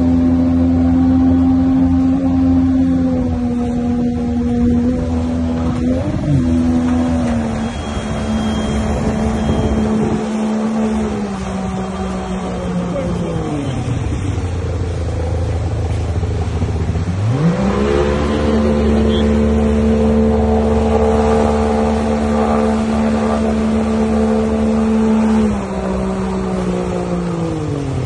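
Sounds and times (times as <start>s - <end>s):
heavy truck engine revving: 0.0s - 28.0s
rushing splashing water: 0.0s - 28.0s.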